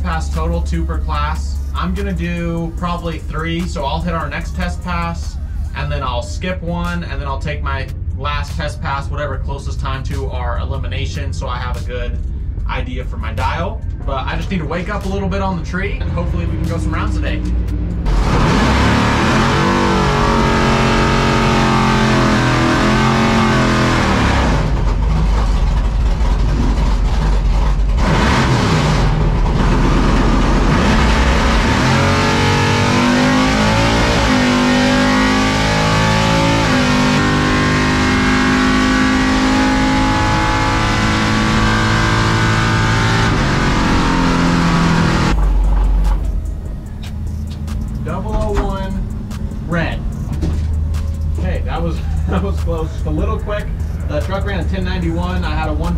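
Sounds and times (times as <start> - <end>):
background music: 0.0 - 24.4, 31.6 - 55.9
pickup engine revving: 0.0 - 55.9.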